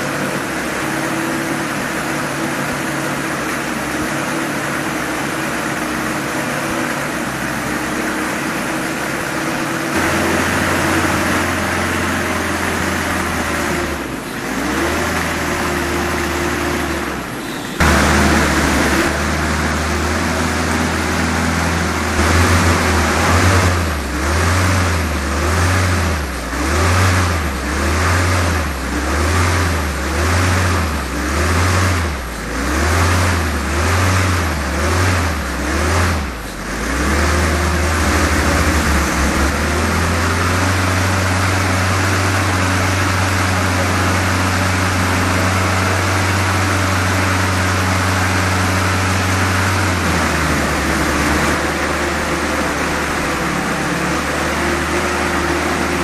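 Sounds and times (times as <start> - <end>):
model radial engine running: 0.0 - 56.0.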